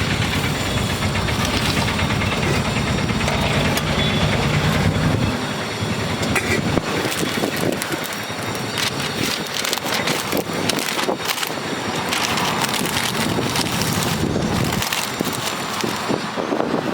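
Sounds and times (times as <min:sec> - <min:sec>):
vehicle engine rumbling: 0:00.0 - 0:16.9.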